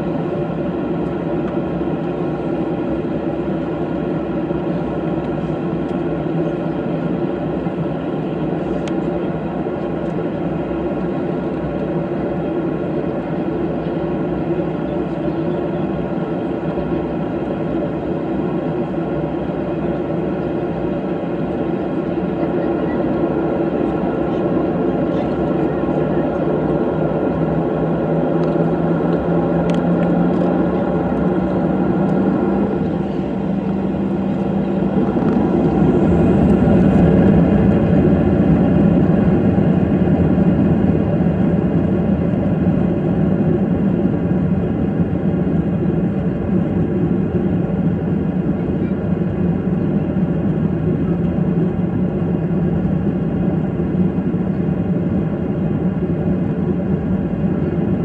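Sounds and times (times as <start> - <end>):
airplane engines droning: 0.0 - 58.0.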